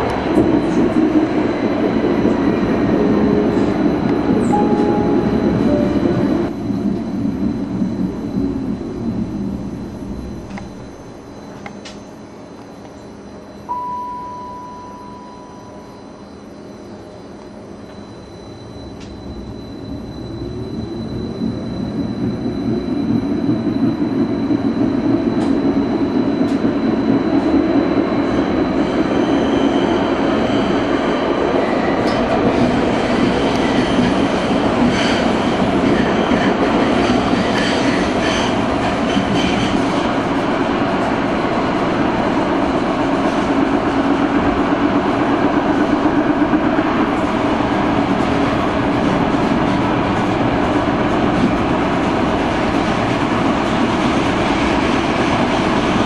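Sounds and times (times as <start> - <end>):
tram motor whine: 0.0 - 56.0
wheels on rail running noise: 0.0 - 56.0.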